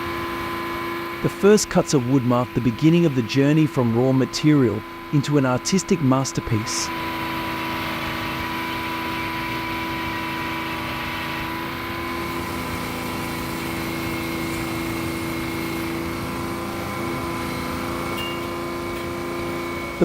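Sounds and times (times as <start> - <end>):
sawmill machinery drone: 0.0 - 20.0.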